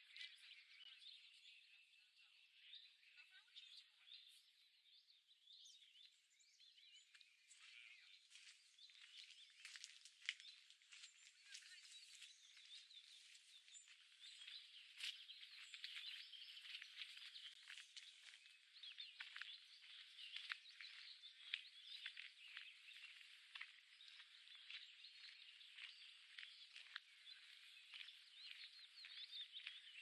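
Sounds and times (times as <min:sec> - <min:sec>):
chorus of songbirds chirping: 0:00.0 - 0:30.0.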